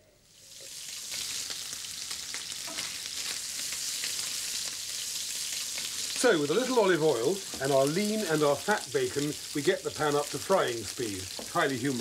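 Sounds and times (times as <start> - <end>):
bacon sizzling in a pan: 0.2 - 12.0.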